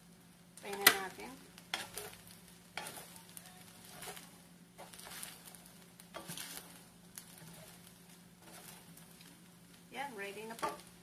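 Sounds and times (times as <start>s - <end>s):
spatulas scraping a pan: 0.7s - 9.4s, 10.4s - 11.0s.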